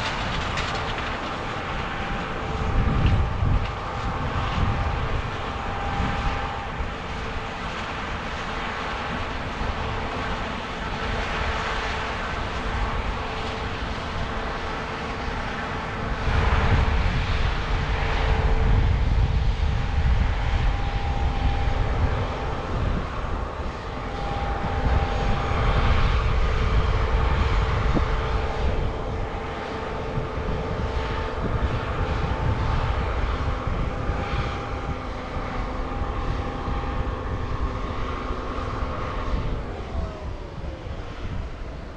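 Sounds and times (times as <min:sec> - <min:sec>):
constant machine whine: 0:00.0 - 0:41.9
diesel engine hum: 0:00.0 - 0:41.9.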